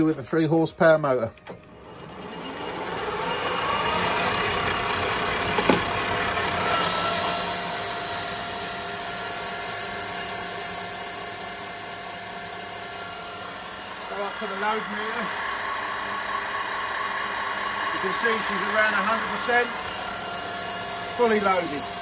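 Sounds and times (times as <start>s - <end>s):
lathe spindle whine: 0.0s - 22.0s
high whine of metal cutting: 1.1s - 22.0s.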